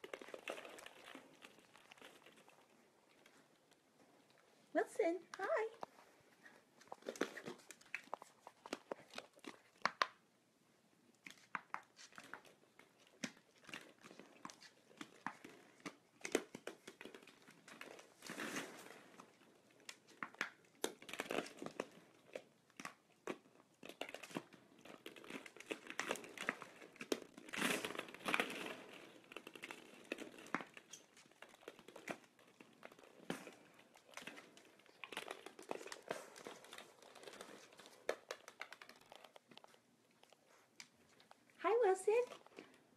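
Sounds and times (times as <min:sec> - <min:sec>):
plastic balls clattering on floor: 0:00.0 - 0:04.4, 0:06.8 - 0:10.3, 0:11.2 - 0:41.6.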